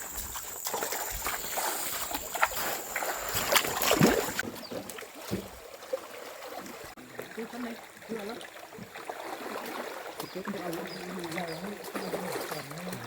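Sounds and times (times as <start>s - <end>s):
water splashing around a boat: 0.0s - 13.0s.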